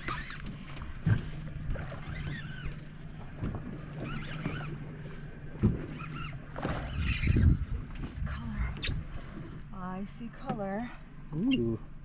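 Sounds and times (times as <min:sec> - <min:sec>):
outboard engine idling: 0:00.0 - 0:12.0.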